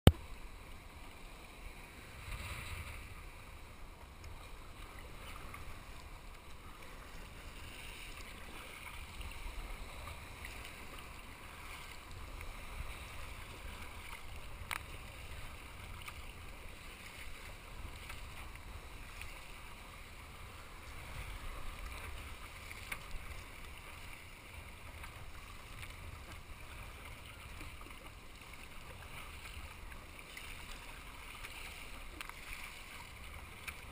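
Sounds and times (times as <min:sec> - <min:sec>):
water churning and rushing: 0:00.1 - 0:33.9.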